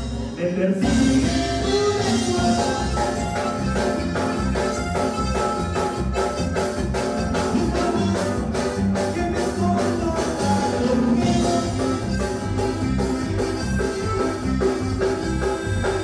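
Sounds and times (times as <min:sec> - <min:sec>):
live latin dance band: 0:00.0 - 0:16.0.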